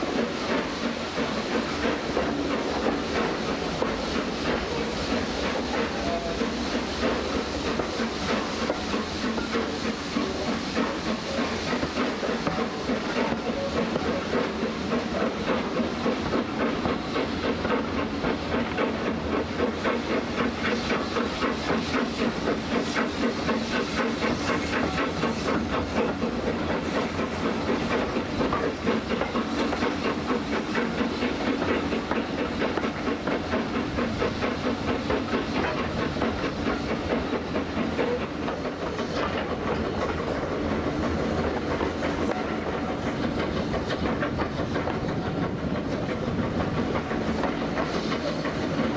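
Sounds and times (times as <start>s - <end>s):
rumble of coaches and wheels on rails: 0.0s - 48.9s
steam locomotive exhaust chuffs: 0.0s - 48.9s.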